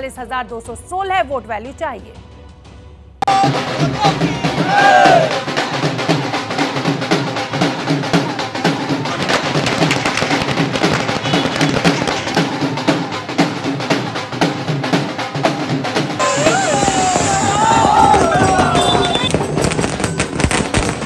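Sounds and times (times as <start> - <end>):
drums playing fast rhythm: 3.2 - 21.0.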